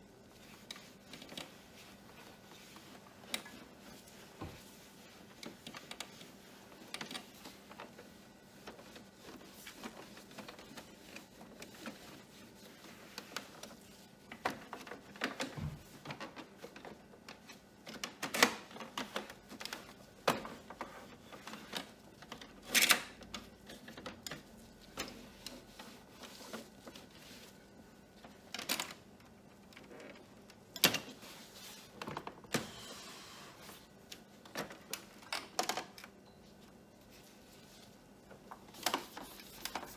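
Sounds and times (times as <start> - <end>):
cloth wiping plastic: 0.0 - 22.5, 23.2 - 35.2, 36.4 - 39.9.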